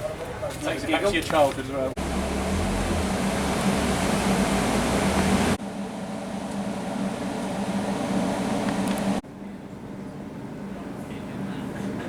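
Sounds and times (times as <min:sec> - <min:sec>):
mechanical hum: 0:01.9 - 0:12.0.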